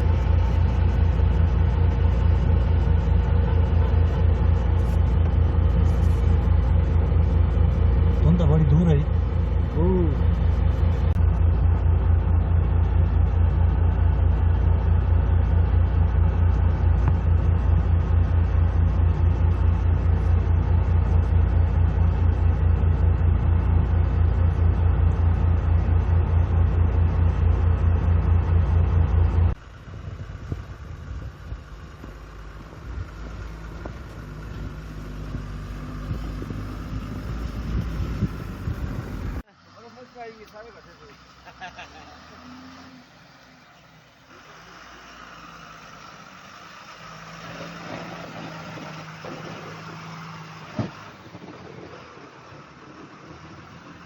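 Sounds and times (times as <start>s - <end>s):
faint engine rumble: 0.0s - 54.0s
heavy diesel engine throbbing: 0.0s - 54.0s.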